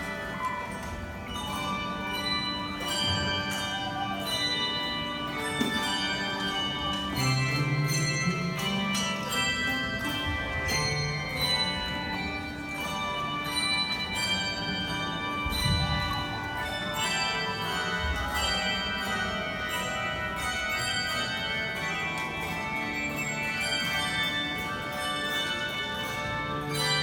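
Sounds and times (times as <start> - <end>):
handbell choir playing: 0.0 - 27.0.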